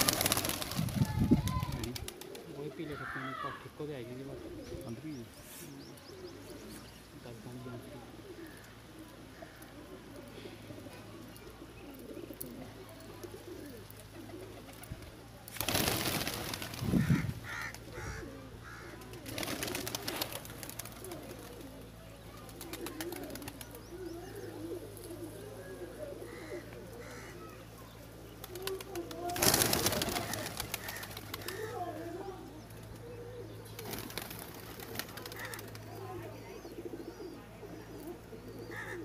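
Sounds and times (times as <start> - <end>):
pigeons cooing: 0.0 - 39.0.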